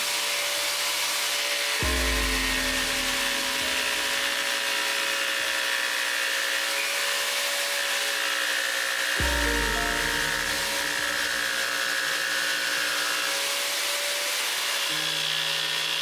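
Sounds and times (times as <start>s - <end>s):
scroll saw cutting plywood: 0.0s - 16.0s.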